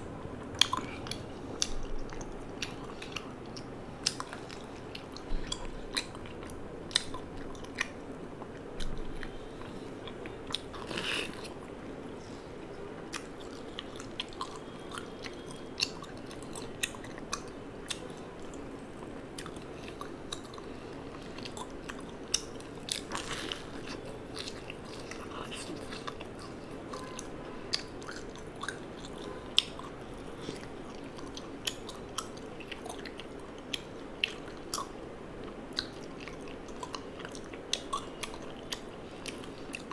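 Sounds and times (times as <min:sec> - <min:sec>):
chewing and biting food: 0:00.5 - 0:11.7, 0:13.1 - 0:39.9.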